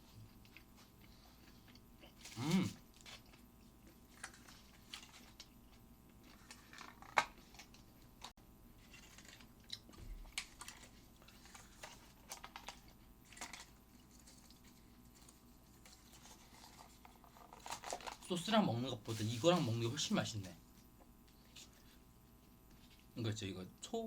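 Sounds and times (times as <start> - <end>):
soft chewing: 0.0 - 18.3, 20.4 - 23.2.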